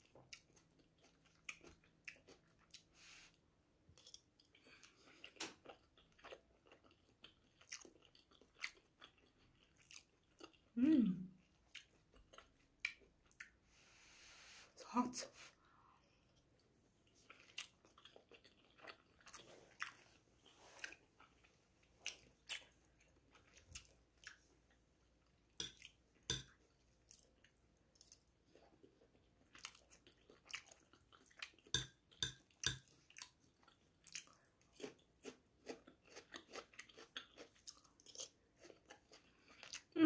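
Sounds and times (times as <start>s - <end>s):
person chewing with wet clicks: 0.0s - 2.9s, 3.9s - 10.8s, 11.4s - 13.6s, 16.2s - 40.0s.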